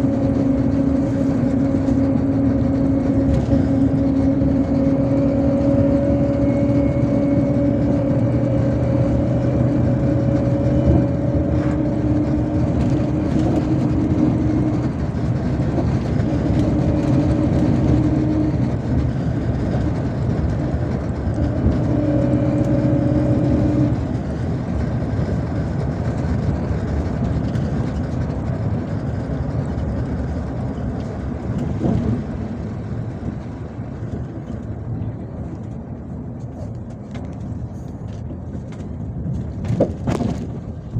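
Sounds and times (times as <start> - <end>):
bus engine and road drone: 0.0 - 40.9
humming whine: 0.0 - 40.9.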